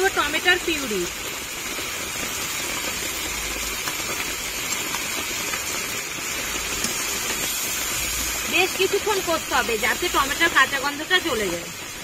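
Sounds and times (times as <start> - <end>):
puree sizzling in hot oil: 0.0 - 12.0.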